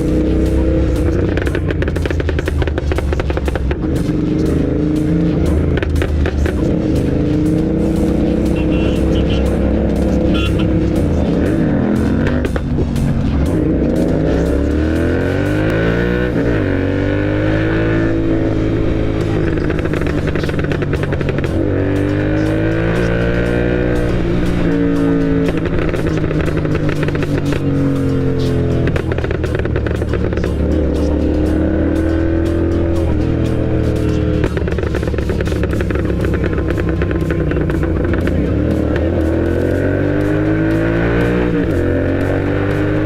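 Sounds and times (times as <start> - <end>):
exhaust crackles: 0.0 - 43.0
motorcycle engine accelerating: 0.0 - 43.0.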